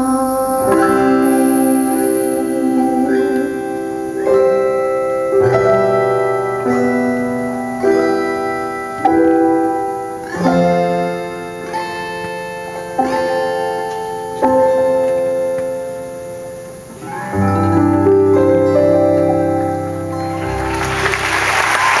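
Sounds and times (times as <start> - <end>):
electric piano chords: 0.0 - 22.0.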